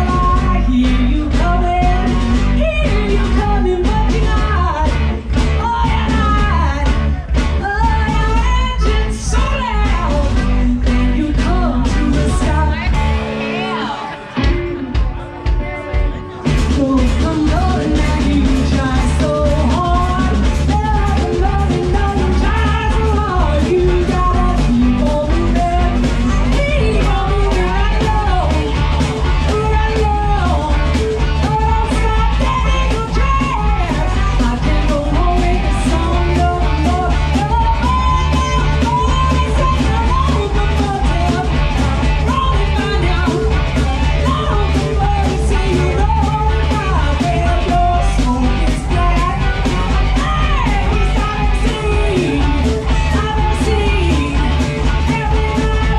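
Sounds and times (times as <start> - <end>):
bass guitar: 0.0 - 55.9
drums: 0.0 - 55.9
electric guitar: 0.0 - 55.9.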